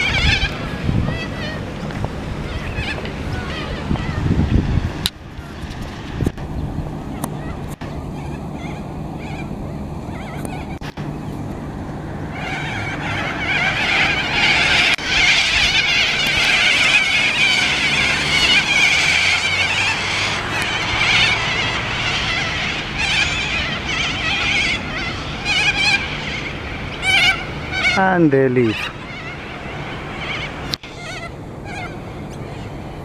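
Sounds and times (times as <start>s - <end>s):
flock of birds chattering: 0.0s - 33.0s.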